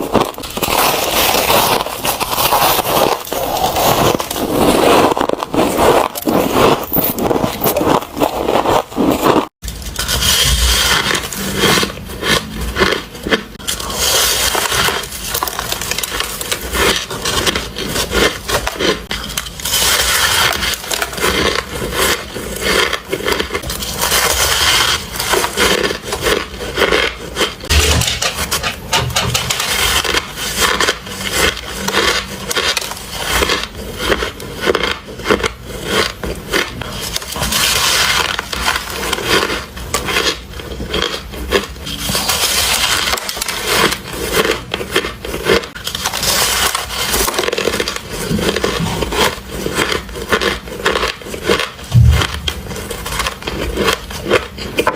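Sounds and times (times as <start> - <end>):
ice crunching between teeth: 0.0 - 28.5, 29.1 - 54.9.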